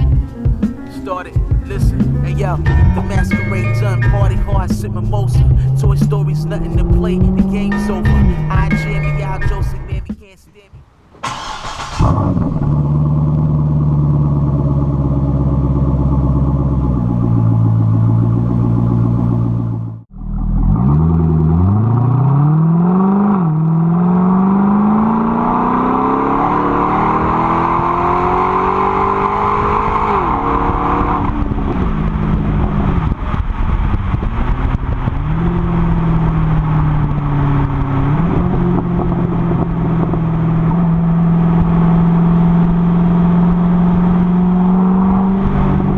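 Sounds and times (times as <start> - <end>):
car engine accelerating: 0.0 - 9.6, 11.2 - 45.9.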